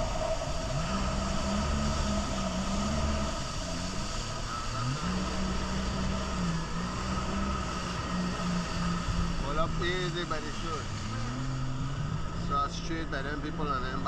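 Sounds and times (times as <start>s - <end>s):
jet ski engine running: 0.0s - 14.0s
rush of wind and water: 0.0s - 14.0s.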